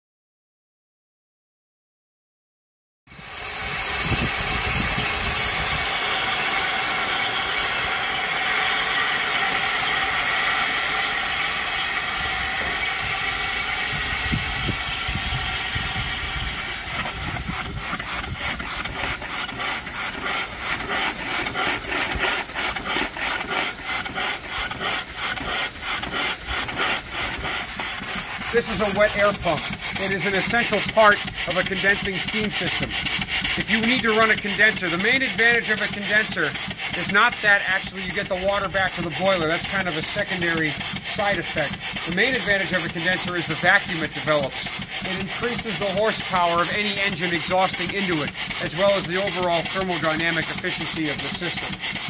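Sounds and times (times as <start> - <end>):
steam engine chuffing: 3.1 - 52.0
steam hissing: 3.1 - 52.0.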